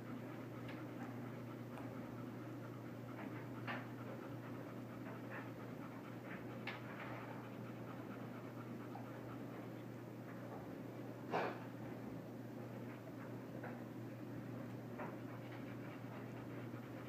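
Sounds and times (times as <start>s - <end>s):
dog panting softly: 0.0s - 17.0s
steady low hum: 0.0s - 17.0s.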